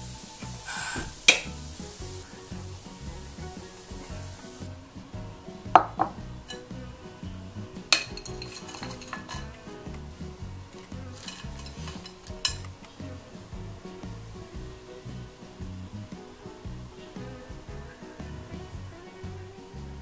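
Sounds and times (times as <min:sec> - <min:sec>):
food sizzling in a frying pan: 0:00.0 - 0:20.0
soft background music with beat: 0:00.0 - 0:20.0.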